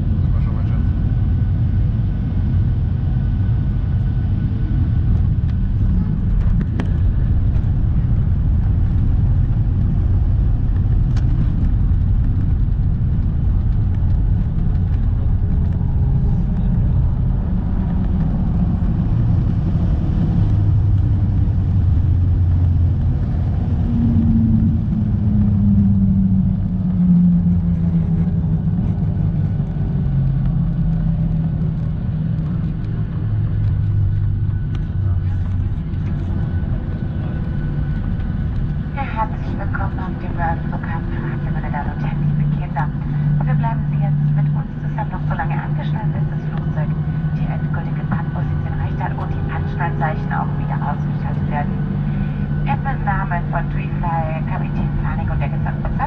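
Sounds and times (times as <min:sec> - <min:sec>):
airliner cabin rumble: 0:00.0 - 0:56.0
low hum: 0:00.0 - 0:56.0.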